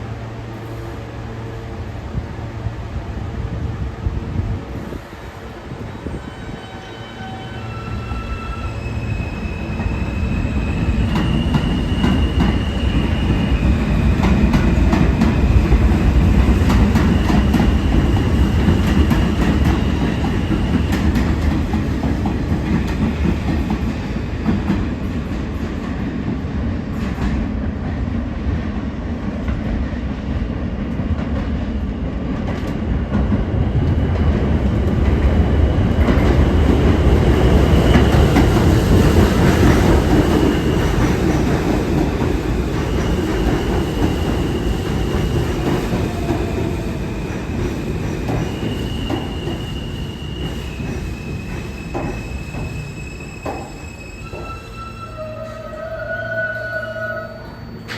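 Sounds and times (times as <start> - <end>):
subway train wheels clacking: 0.0 - 57.9.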